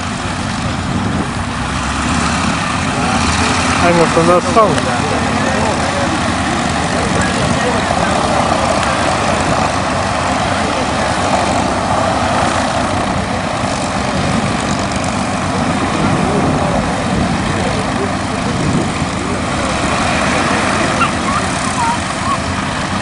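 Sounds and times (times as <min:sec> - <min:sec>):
propeller plane engine idling: 0:00.0 - 0:23.0.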